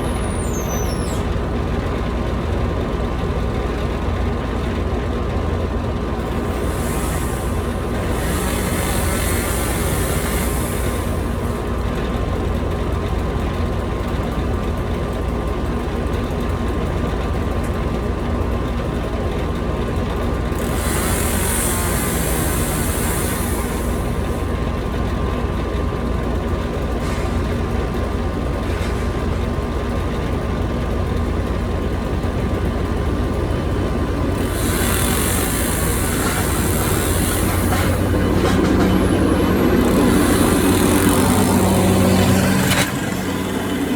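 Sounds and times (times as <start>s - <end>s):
skid steer engine running: 0.0s - 43.9s.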